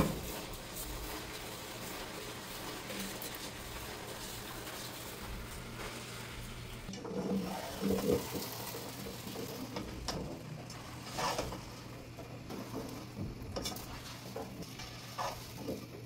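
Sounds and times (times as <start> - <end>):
spatula scraping in a pot: 0.0 - 9.9, 10.7 - 16.0
food sizzling: 0.0 - 16.0.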